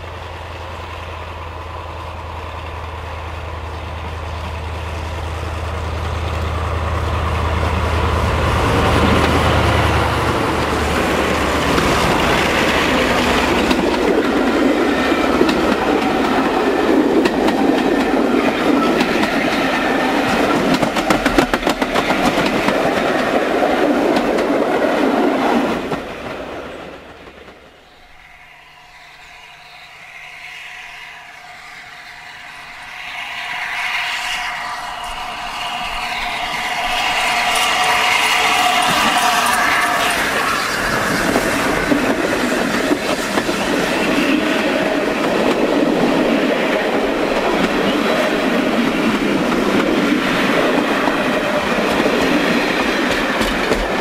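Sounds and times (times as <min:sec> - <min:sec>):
locomotive engine drone: 0:00.0 - 0:54.0
steam locomotive approaching: 0:00.0 - 0:54.0
train wheels clattering: 0:02.6 - 0:28.2, 0:32.8 - 0:54.0.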